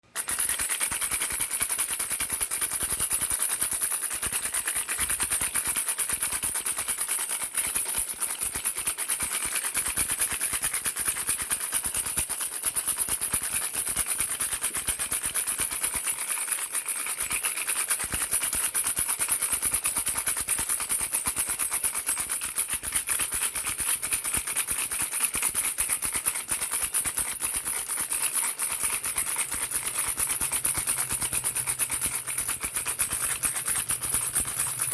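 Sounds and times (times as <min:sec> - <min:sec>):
baby rattle shaken rapidly: 0:00.0 - 0:34.9.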